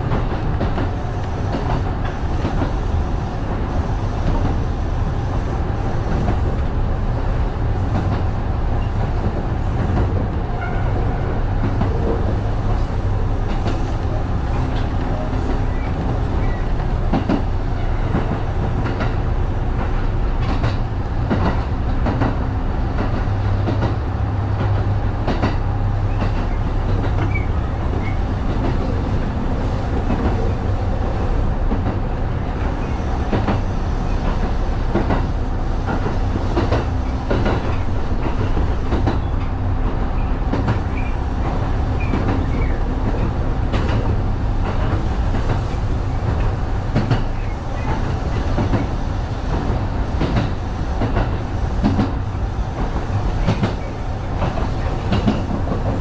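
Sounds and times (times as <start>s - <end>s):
electric train rumbling: 0.0s - 56.0s
wheels clicking over rail joints: 7.8s - 56.0s.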